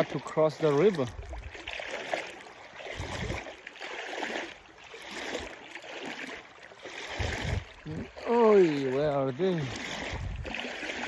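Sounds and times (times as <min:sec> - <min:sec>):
river water sloshing: 0:00.0 - 0:11.0.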